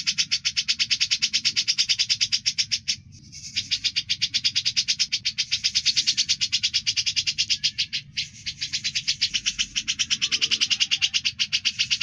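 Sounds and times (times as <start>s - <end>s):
bird singing rattling trill: 0.0s - 12.0s.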